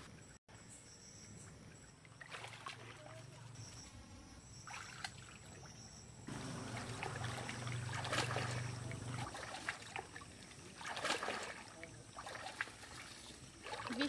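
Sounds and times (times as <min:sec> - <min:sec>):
low steady hum: 0:00.1 - 0:14.0
water swishing and splashing: 0:02.0 - 0:03.9, 0:04.5 - 0:14.0.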